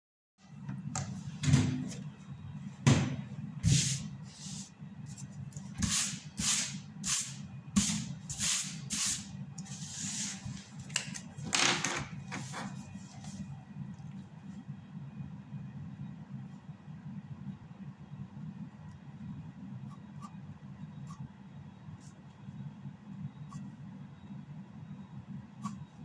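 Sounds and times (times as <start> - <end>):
low steady hum: 0.4 - 26.0.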